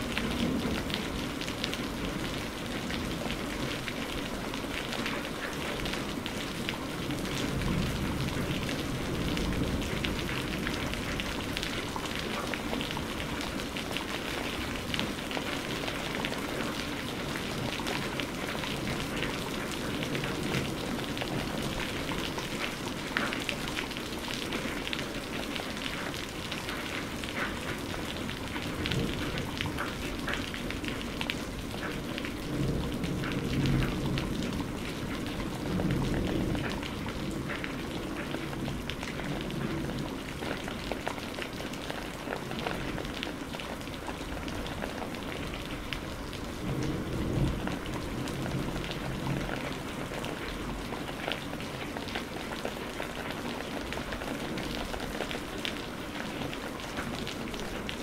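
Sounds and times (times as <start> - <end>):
raindrops ticking on a surface: 0.0 - 58.0.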